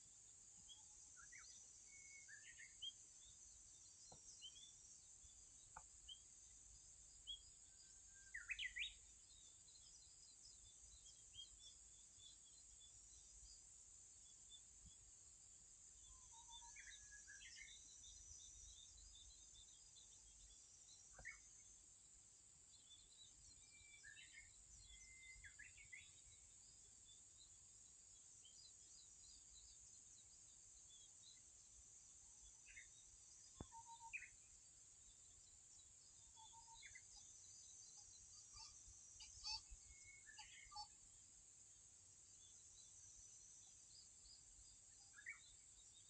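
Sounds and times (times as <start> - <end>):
faint high hiss: 0.0 - 46.0
bird chirps: 0.6 - 6.3, 7.2 - 13.3, 16.0 - 21.7, 22.7 - 27.6, 28.4 - 41.2, 42.4 - 46.0.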